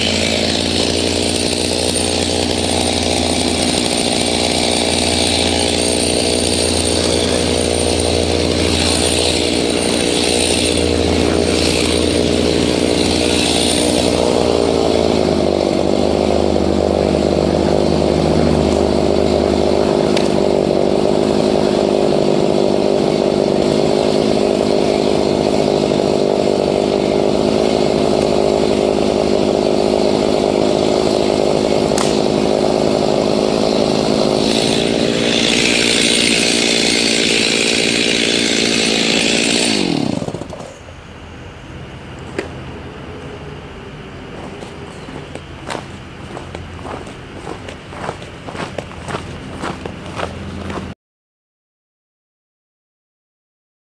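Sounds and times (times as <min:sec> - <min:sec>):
chainsaw cutting log at high revs: 0:00.0 - 0:40.8, 0:44.4 - 0:51.0.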